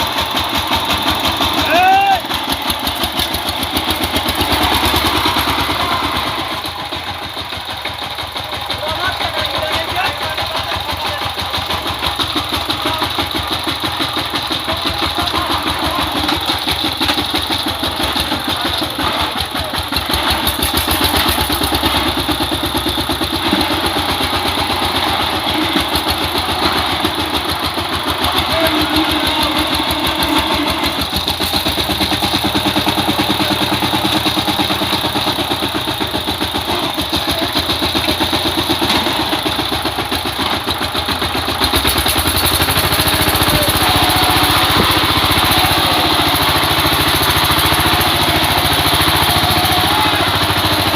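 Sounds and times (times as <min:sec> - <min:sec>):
power tiller engine chugging: 0:00.0 - 0:50.9.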